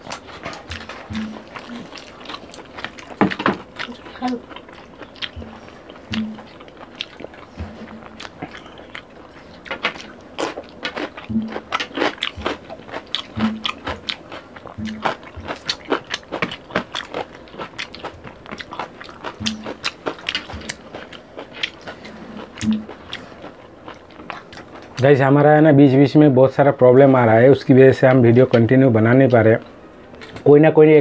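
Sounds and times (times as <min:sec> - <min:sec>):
wet eating sounds: 0:00.0 - 0:25.2.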